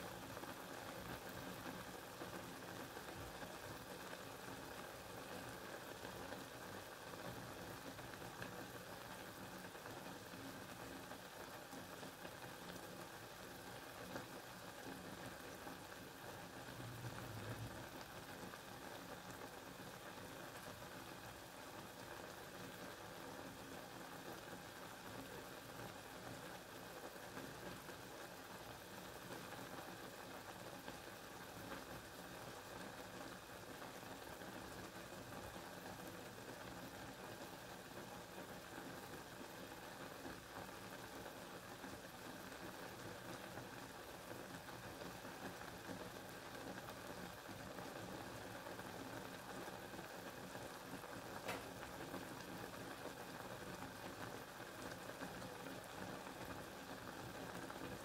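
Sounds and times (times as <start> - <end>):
faint rain falling: 0.0 - 58.0.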